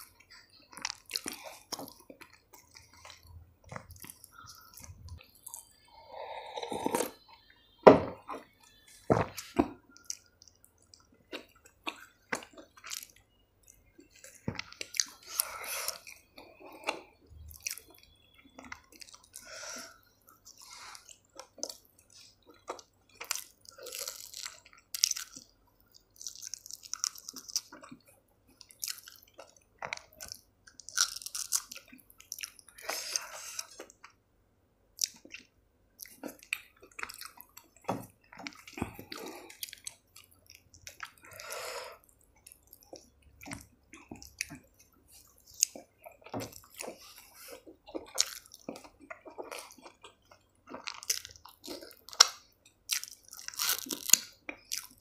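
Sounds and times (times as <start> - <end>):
person chewing: 0.0 - 34.2, 35.0 - 55.0.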